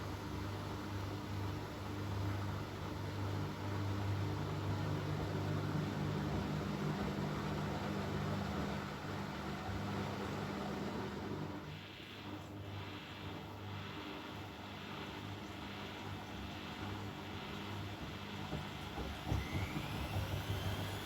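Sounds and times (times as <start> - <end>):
washing machine motor humming: 0.0 - 21.0.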